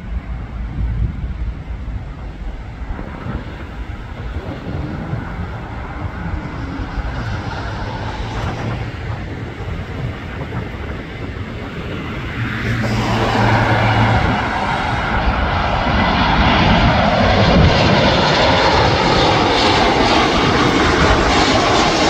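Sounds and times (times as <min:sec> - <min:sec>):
jet airliner engine rumble: 0:00.0 - 0:22.0.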